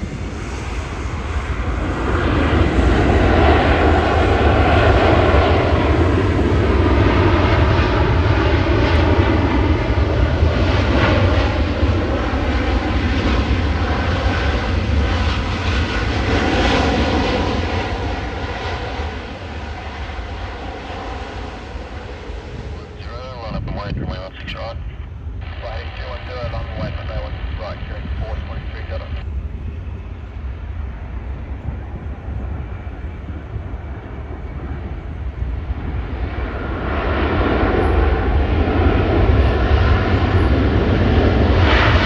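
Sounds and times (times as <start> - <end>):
jet airliner engines passing: 0.0 - 42.0.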